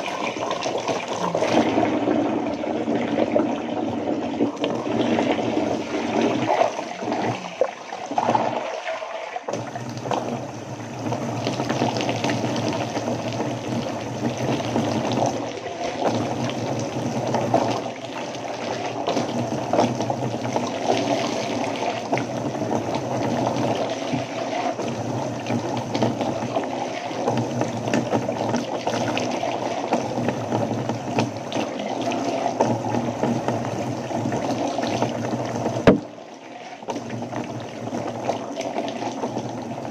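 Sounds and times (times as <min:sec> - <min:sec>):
water poured splashing into tub: 0:00.0 - 0:39.9
water running from faucet: 0:00.0 - 0:39.9.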